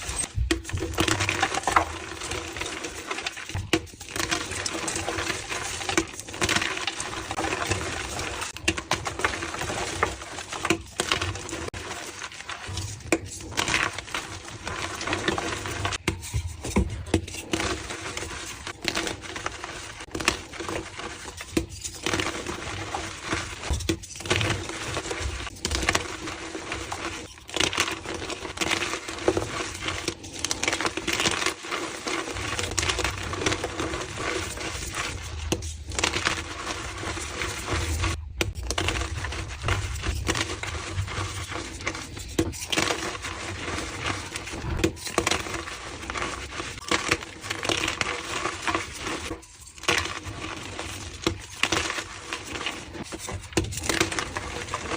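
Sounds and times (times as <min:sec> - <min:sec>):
chalk being crushed and crumbled: 0:00.0 - 0:54.9.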